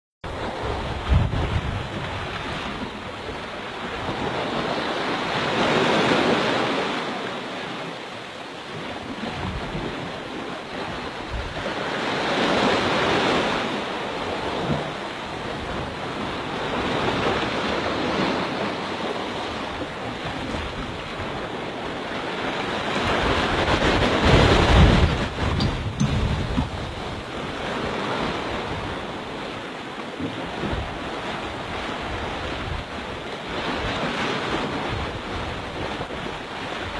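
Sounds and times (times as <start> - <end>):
small waves washing onto beach: 0.3 - 36.9.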